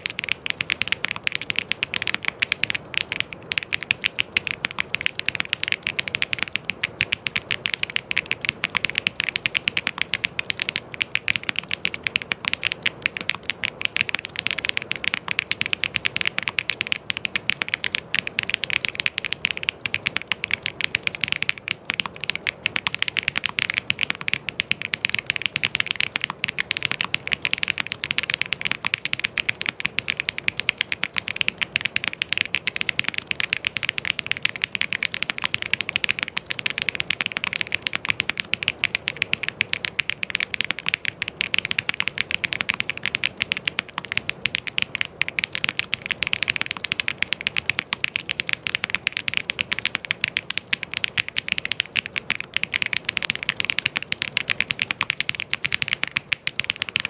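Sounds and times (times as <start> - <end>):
typing on mechanical keyboard: 0.0 - 57.0.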